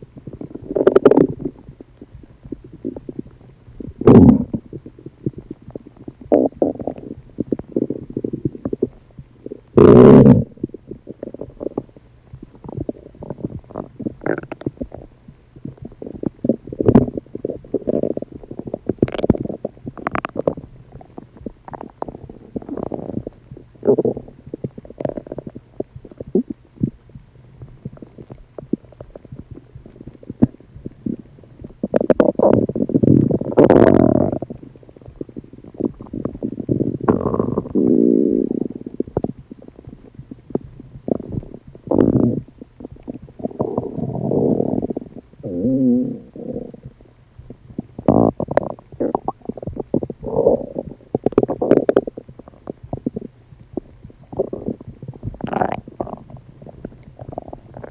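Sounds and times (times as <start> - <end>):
stomach rumbling and gurgling: 0.0 - 57.9.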